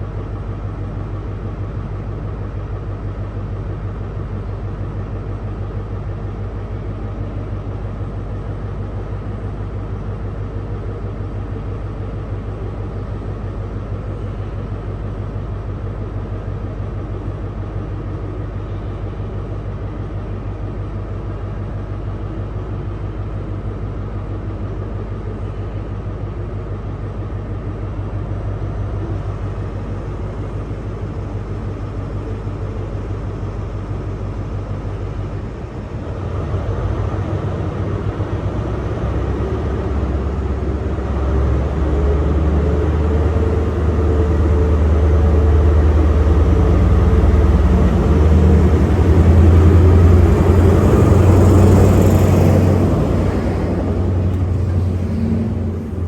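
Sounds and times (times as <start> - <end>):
train engine rumbling: 0.0 - 56.0.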